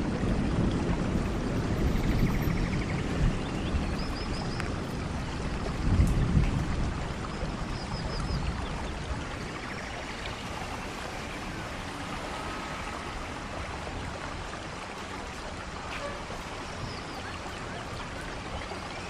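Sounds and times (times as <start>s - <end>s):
steady rain falling: 0.0s - 19.0s
water running and splashing: 0.0s - 19.0s.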